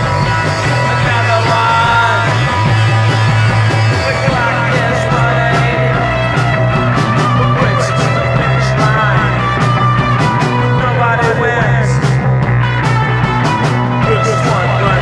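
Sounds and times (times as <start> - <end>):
drum and cymbal hits: 0.0 - 15.0
punk rock band playing: 0.0 - 15.0.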